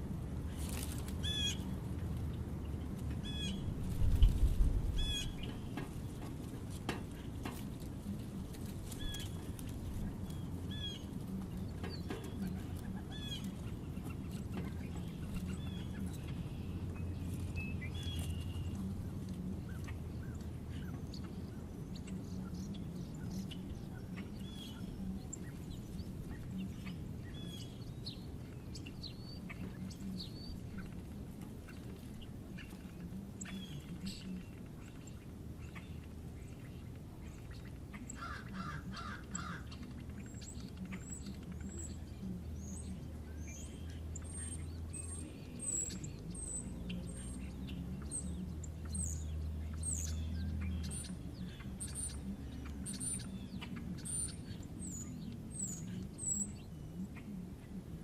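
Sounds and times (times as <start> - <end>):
wild birds chirping: 0.0 - 58.0.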